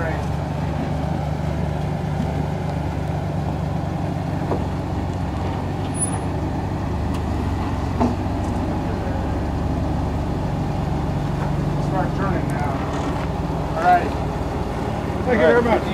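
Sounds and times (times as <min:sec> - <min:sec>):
engine running at low revs: 0:00.0 - 0:15.9.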